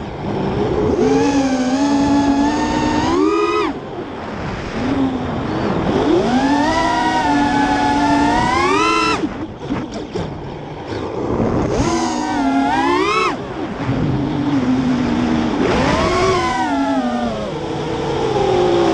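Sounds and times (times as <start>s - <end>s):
drone motors whining: 0.0s - 18.9s
wind noise: 0.0s - 18.9s.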